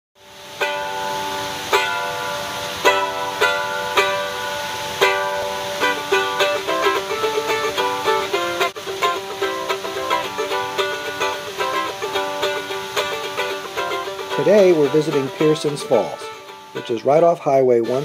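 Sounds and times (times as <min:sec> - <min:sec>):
mandolin playing: 0:00.2 - 0:18.0
waterfall rushing: 0:00.2 - 0:18.0.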